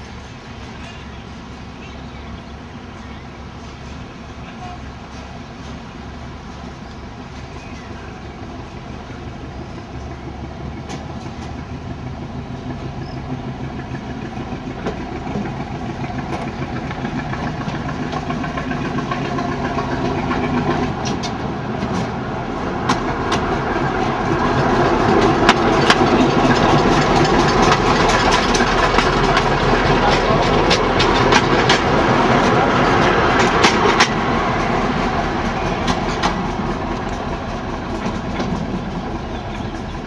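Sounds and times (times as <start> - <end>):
diesel railcar engine running: 0.0 - 40.0
wheels clicking on track: 6.8 - 40.0.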